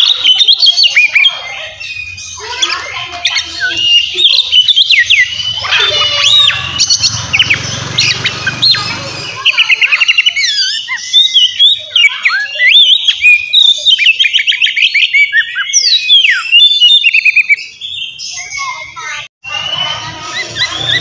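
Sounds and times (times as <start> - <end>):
songbird singing loudly: 0.0 - 21.0.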